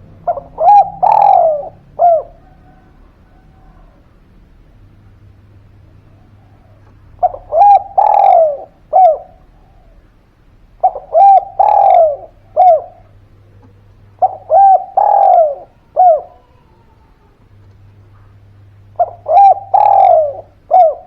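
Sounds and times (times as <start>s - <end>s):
dove cooing: 0.0s - 4.4s, 5.9s - 21.0s.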